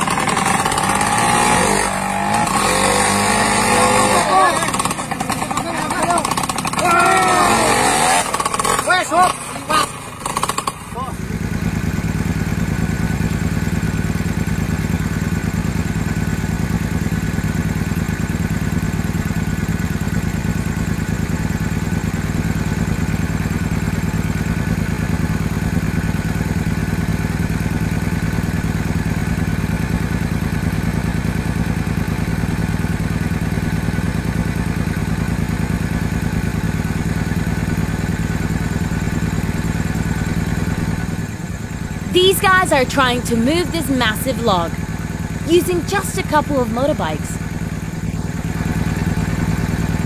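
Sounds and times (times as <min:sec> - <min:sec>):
small motorcycle engine idling: 0:00.0 - 0:50.0.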